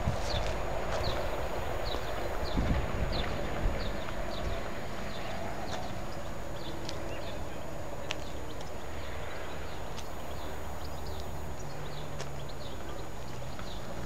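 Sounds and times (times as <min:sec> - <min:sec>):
steady low rumble: 0:00.0 - 0:13.8
footsteps on paved path: 0:00.0 - 0:14.0.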